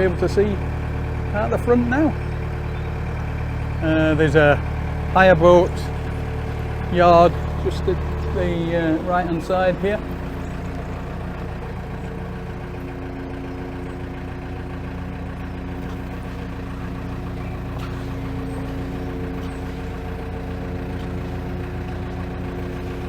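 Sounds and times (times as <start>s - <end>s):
diesel engine running at low revs: 0.0s - 23.0s.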